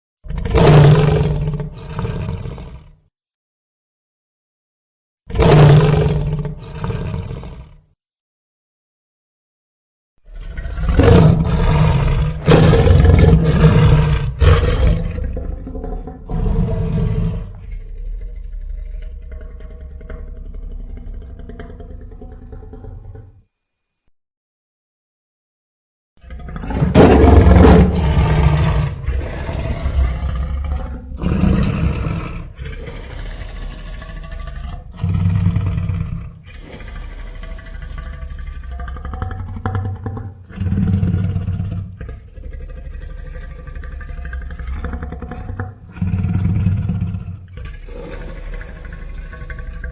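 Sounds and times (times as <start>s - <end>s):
creature roars: 0.2s - 3.0s, 5.3s - 7.9s, 10.3s - 23.3s, 26.2s - 49.9s.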